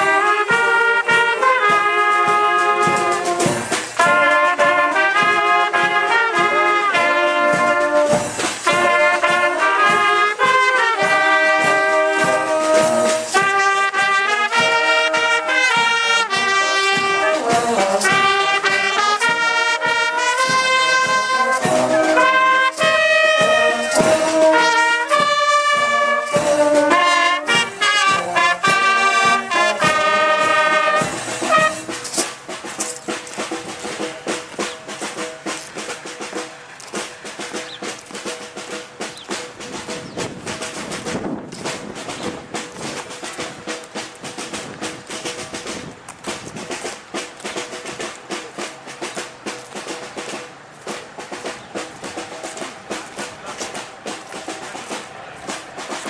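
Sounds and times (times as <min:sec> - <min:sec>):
marching brass band playing: 0:00.0 - 0:56.0.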